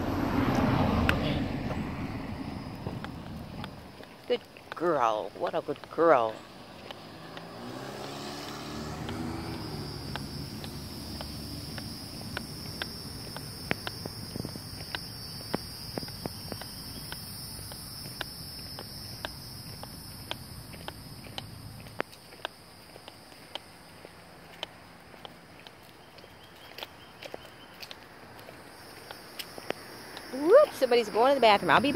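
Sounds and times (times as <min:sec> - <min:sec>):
insects buzzing: 0:00.0 - 0:31.9
footsteps on asphalt: 0:00.3 - 0:31.9.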